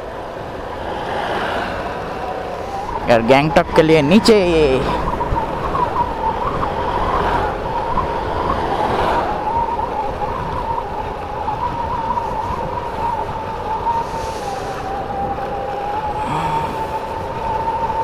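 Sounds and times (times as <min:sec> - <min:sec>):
motorcycle engine whine: 0:00.0 - 0:18.0
wind rumble on microphone: 0:00.0 - 0:18.0.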